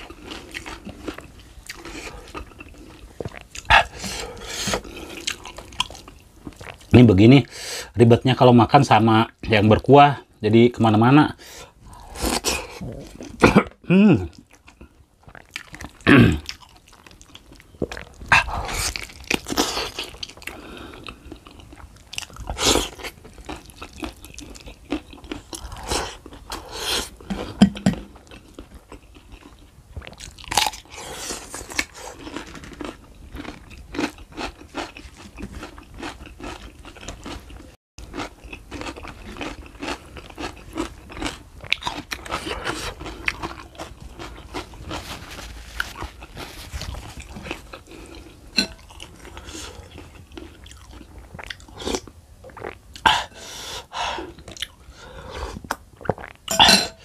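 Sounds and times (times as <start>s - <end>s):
person chewing and smacking lips: 0.0s - 7.0s, 11.9s - 57.0s.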